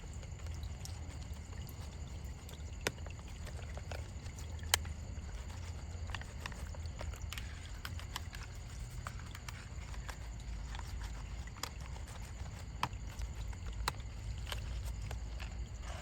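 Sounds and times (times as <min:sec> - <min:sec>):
light clicks and taps: 0:00.0 - 0:15.8.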